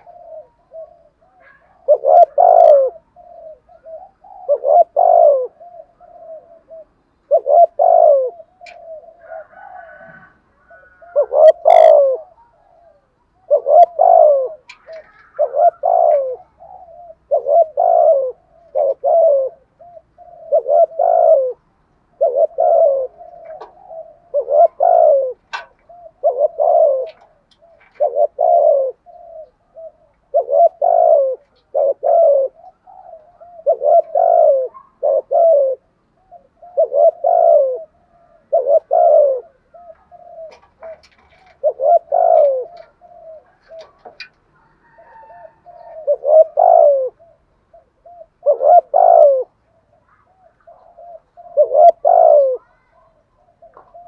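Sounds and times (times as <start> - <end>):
soft low dove notes: 0.0 - 9.5, 10.6 - 54.0
dove cooing: 0.0 - 54.0.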